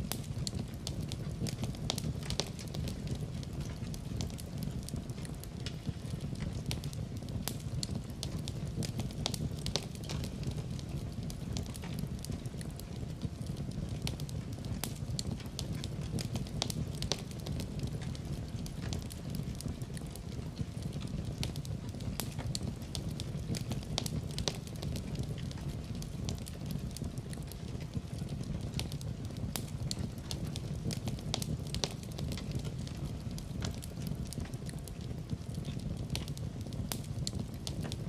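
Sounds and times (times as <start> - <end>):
fire crackling and popping: 0.0 - 38.0
wood fire rumbling: 0.0 - 38.0.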